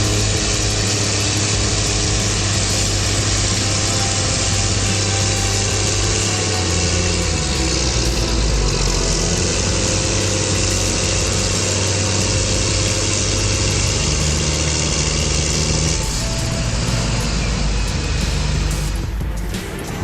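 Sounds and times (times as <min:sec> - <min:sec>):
heavy vehicle engines running: 0:00.0 - 0:20.0.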